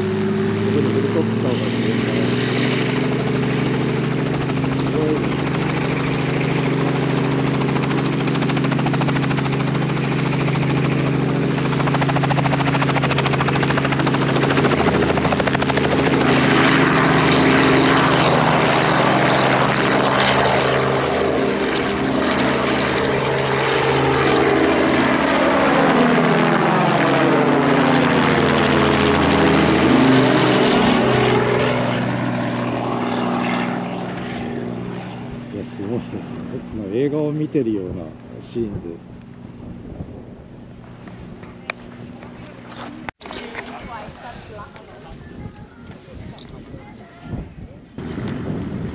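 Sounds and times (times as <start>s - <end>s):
helicopter flying: 0.0s - 48.9s.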